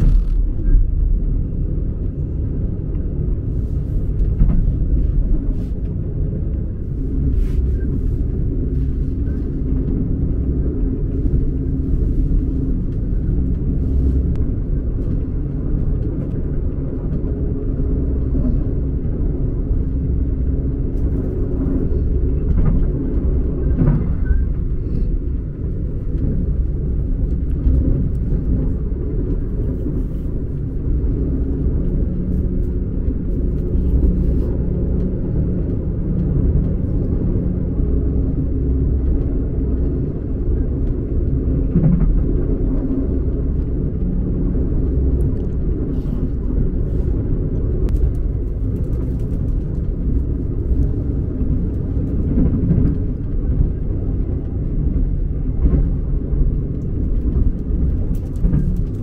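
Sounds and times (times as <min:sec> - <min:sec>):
moving train rumble: 0:00.0 - 0:59.0.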